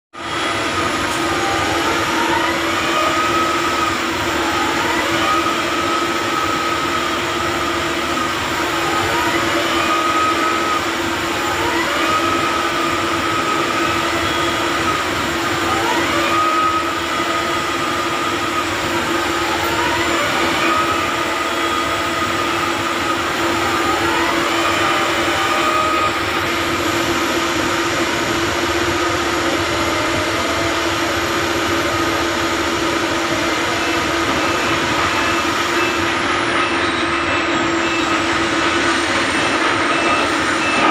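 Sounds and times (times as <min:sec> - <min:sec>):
piling rig machine drone: 0:00.2 - 0:40.9.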